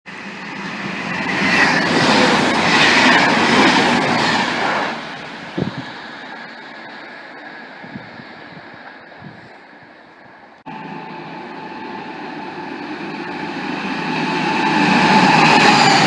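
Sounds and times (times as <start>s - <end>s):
train passing: 0.1s - 16.0s.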